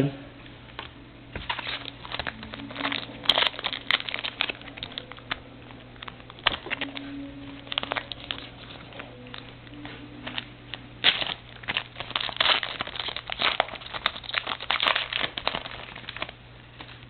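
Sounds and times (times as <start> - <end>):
wrapper crinkling and tearing: 0.8 - 17.0.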